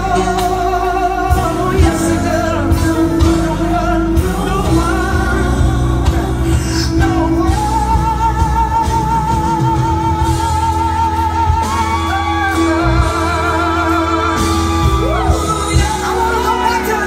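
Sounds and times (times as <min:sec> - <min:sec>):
bass and drums: 0:00.0 - 0:17.0
person singing: 0:00.0 - 0:17.0.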